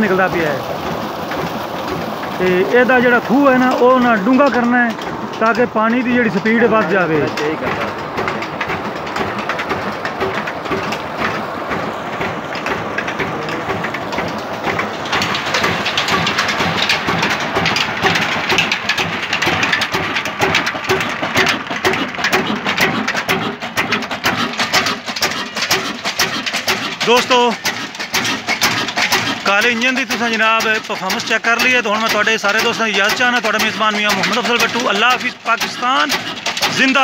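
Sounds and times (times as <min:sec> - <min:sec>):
stationary engine knocking: 0:00.0 - 0:37.0
water gushing into channel: 0:00.0 - 0:37.0.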